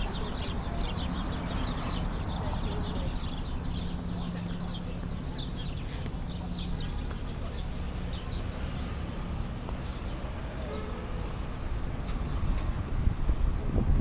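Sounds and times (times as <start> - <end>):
small birds chirping: 0.0 - 11.3
traffic hum: 0.0 - 14.0.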